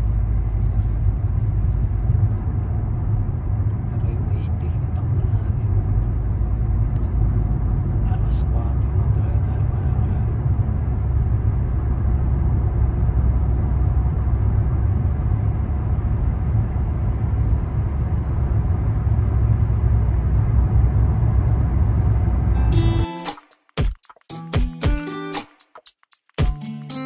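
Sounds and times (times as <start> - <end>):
car interior road and engine rumble: 0.0 - 23.2.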